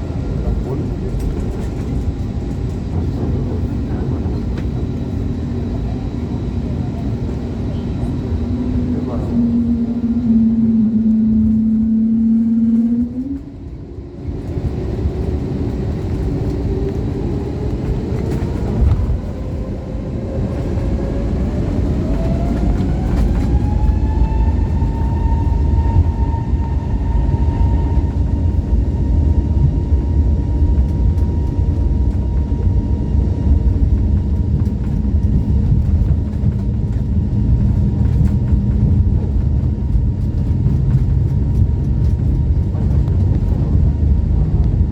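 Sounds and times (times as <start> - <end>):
jet engines whining: 0.0 - 44.9
low rumble of takeoff roll: 0.0 - 44.9.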